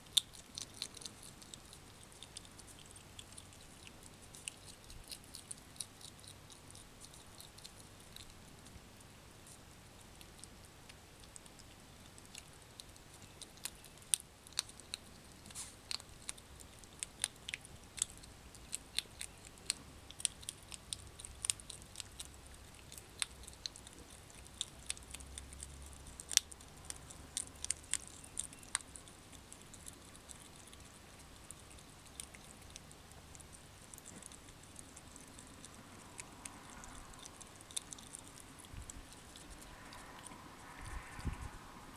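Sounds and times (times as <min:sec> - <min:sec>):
hedgehog chewing: 0:00.0 - 0:41.9.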